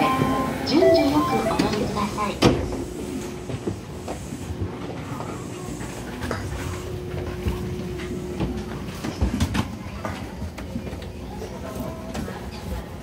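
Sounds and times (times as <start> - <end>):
monorail car hum: 0.0 - 13.0.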